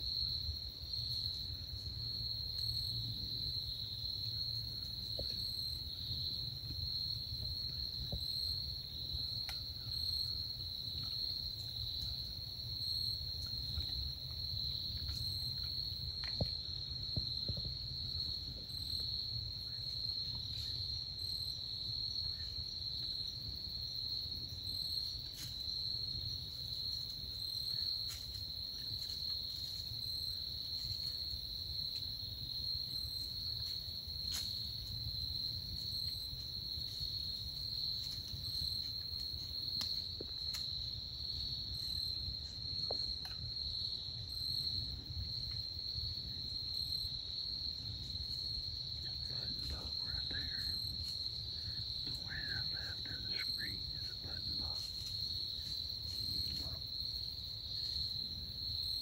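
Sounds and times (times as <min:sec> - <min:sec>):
crickets trilling: 0:00.0 - 0:59.0
high pulsing insect call: 0:00.0 - 0:59.0.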